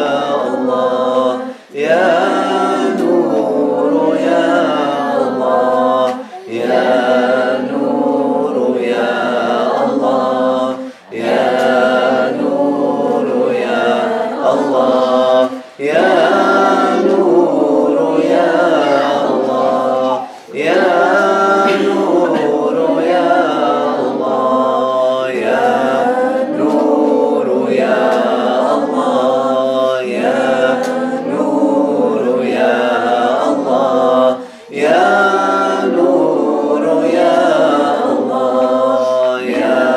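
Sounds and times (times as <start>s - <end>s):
group singing a cappella chant: 0.0s - 39.9s.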